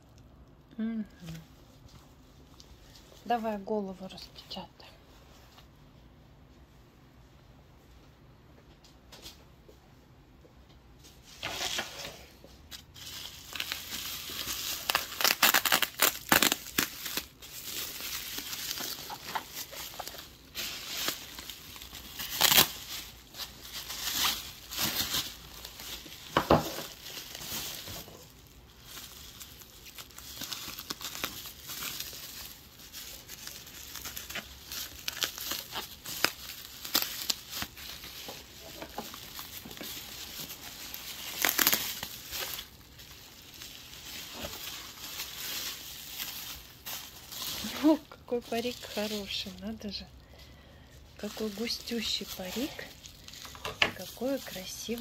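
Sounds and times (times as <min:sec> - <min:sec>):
bubble wrap crinkling: 0:00.8 - 0:05.8, 0:11.0 - 0:55.0.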